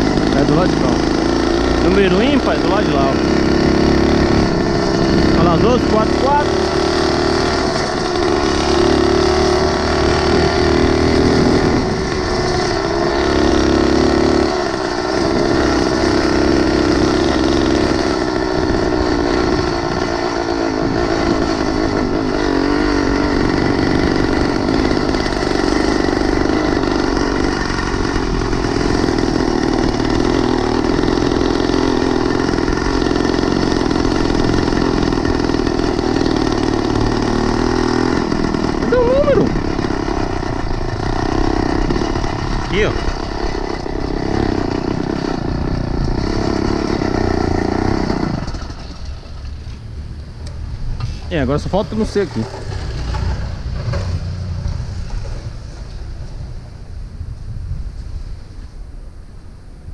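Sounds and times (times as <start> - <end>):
small motorbike engine running: 0.0 - 56.6.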